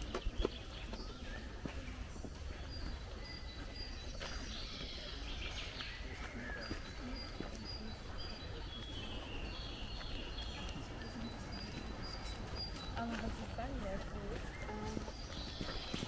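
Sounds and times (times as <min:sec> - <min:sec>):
birds warbling song: 0:00.0 - 0:16.0.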